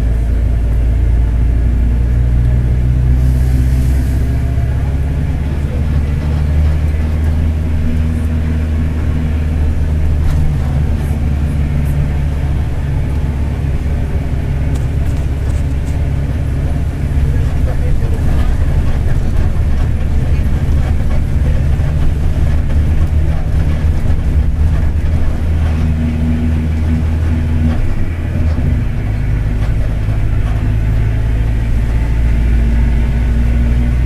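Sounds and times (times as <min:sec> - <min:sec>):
bus diesel engine running: 0:00.0 - 0:34.0
driveshaft rumble: 0:00.0 - 0:34.0.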